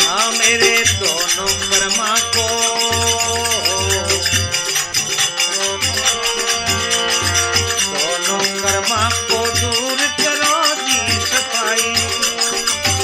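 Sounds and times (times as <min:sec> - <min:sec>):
jingling shaker percussion: 0:00.0 - 0:13.0.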